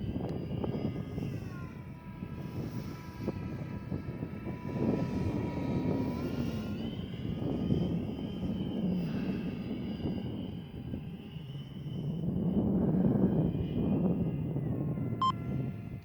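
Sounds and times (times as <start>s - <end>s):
electric ducted-fan jet whine: 0.0s - 16.0s
wind rumble on microphone: 0.0s - 16.0s.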